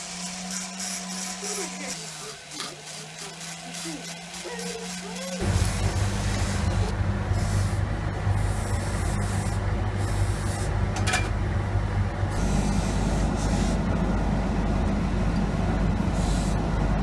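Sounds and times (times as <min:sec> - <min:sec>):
workshop machine humming and hissing: 0:00.0 - 0:17.0.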